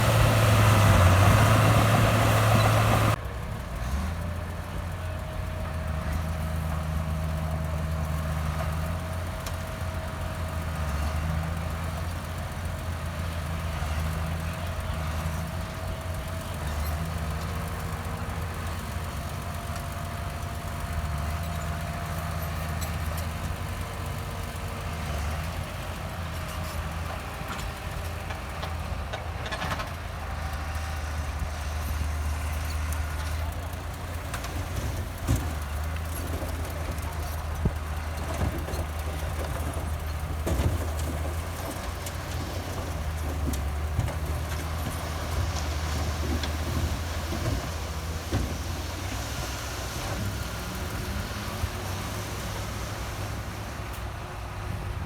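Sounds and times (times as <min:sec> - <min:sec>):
diesel machinery engine rumbling: 0:00.0 - 0:55.0.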